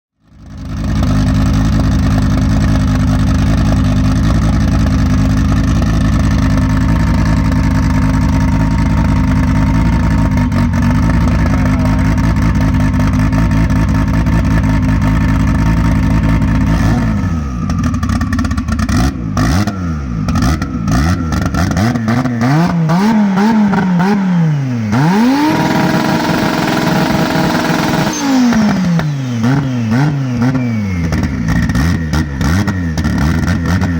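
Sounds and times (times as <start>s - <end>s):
car engine idling and revving: 0.2s - 33.9s.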